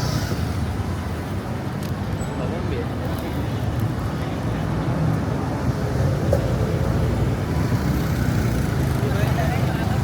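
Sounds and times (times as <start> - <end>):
passing cars rumble: 0.0 - 10.0.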